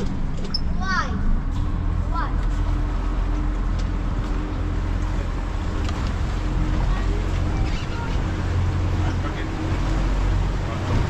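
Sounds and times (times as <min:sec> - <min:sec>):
boat engine droning: 0:00.0 - 0:11.0
water rushing: 0:00.0 - 0:11.0
wind: 0:00.0 - 0:11.0.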